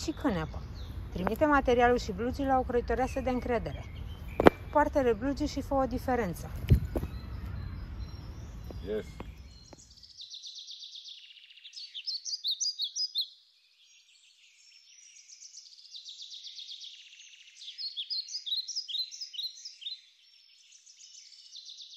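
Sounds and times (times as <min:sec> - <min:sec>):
small birds chirping and trilling: 0:00.0 - 0:21.9.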